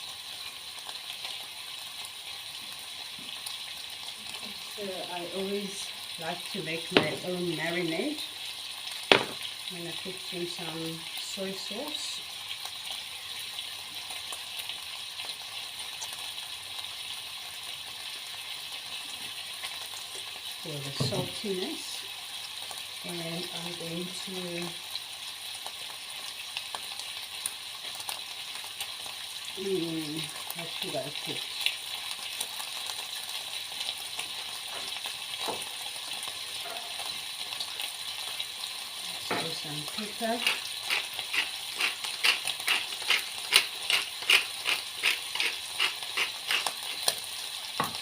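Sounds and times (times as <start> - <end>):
bacon sizzling in a frying pan: 0.0 - 48.0.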